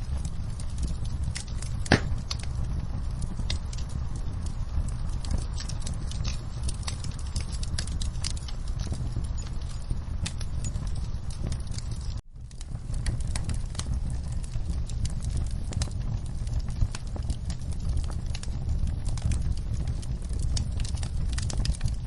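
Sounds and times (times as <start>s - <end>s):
low rumble: 0.0s - 22.0s
rain: 0.0s - 22.0s
wood fire crackling: 0.0s - 22.0s.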